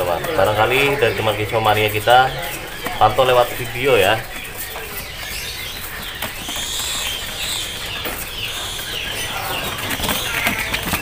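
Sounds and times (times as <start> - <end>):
songbirds chirping: 0.0 - 11.0
wings fluttering: 0.0 - 11.0.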